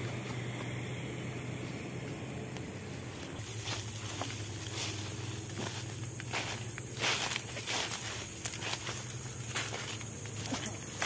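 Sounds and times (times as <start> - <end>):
steady low hum: 0.0 - 11.0
footsteps through dry brush: 1.5 - 11.0.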